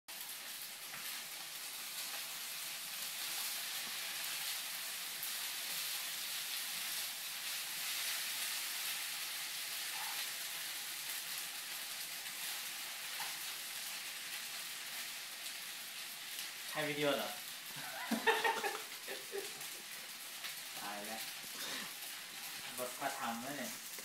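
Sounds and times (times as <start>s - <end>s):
rice sizzling in a hot pan: 0.1s - 24.0s.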